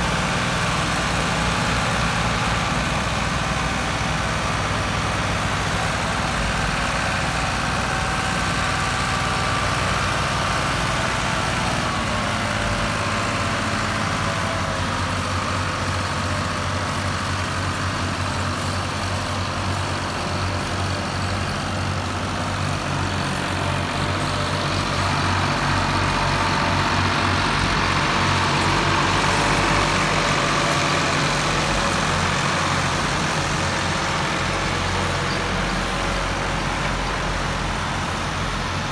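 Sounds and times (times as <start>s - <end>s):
tractor diesel engines under load: 0.0s - 38.9s.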